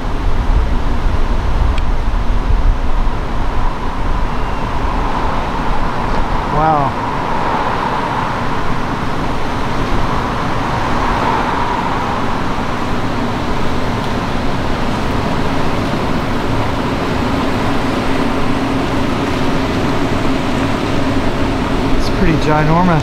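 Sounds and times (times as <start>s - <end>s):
faint steady hum: 0.0s - 23.0s
road traffic: 0.0s - 23.0s.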